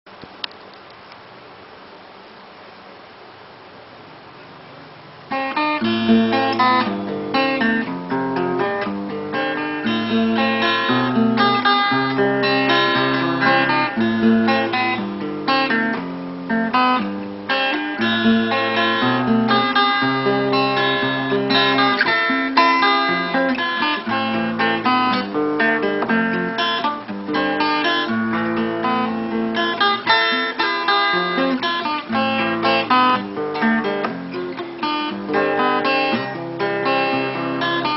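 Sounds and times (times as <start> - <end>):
faint hiss: 0.1 - 37.9
guitar playing melody: 4.5 - 37.9.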